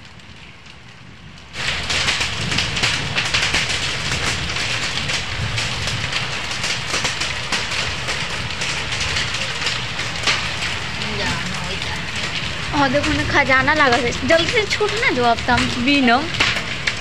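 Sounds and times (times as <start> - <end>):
hail and rain clattering: 0.0 - 17.0.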